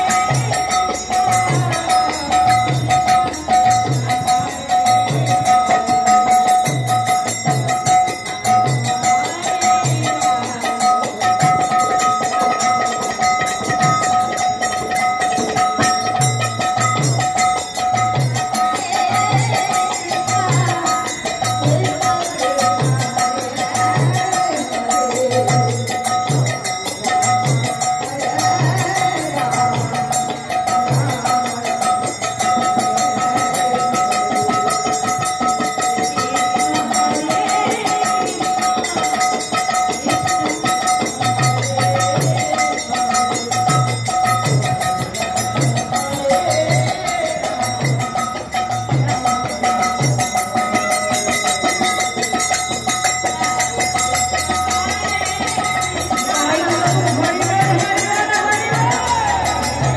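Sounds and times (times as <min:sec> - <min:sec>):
hand drum beating: 0:00.0 - 0:59.9
women singing: 0:00.0 - 0:59.9.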